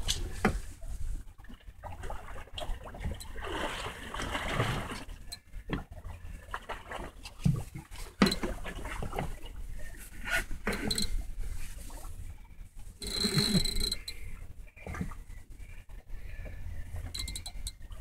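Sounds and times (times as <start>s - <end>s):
water slapping boat hull: 0.0s - 18.0s.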